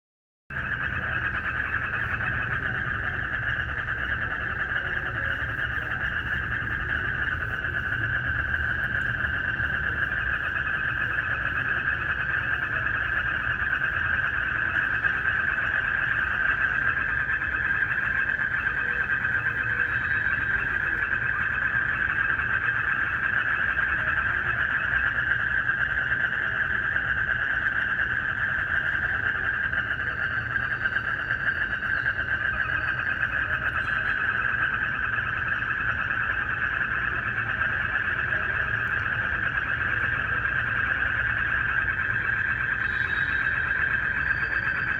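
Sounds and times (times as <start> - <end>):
crickets chirping: 0.5 - 44.9
frogs calling: 0.5 - 44.9.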